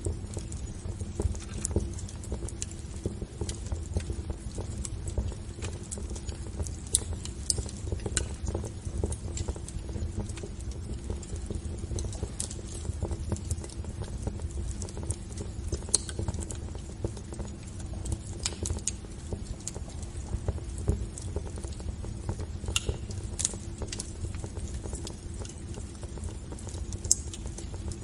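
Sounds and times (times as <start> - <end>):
fire crackling in fireplace: 0.0 - 28.0.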